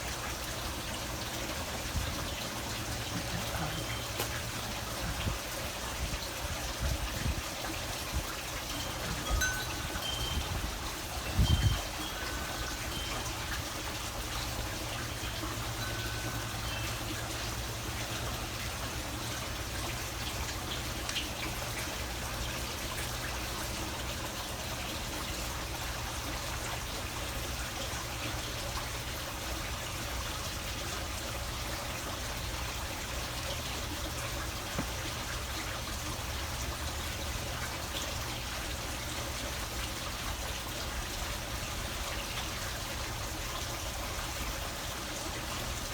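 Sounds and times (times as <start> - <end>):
trickle of running water: 0.0 - 45.9.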